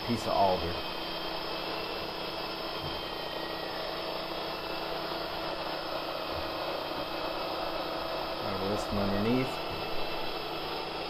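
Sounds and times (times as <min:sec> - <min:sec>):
saw cutting through log: 0:00.0 - 0:11.0
sawmill engine running: 0:00.0 - 0:11.0.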